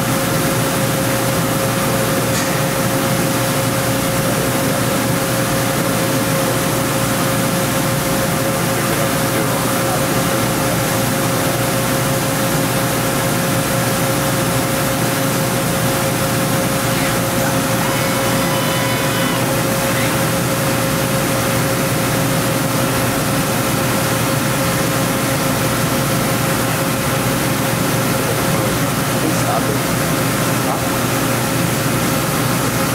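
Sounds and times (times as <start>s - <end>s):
high machine whine: 0.0s - 32.9s
machine hum with hiss: 0.0s - 32.9s.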